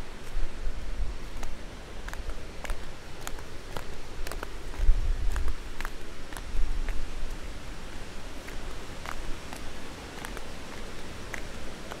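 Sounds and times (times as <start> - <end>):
footsteps on stone path: 0.0 - 12.0
steady outdoor noise: 0.0 - 12.0.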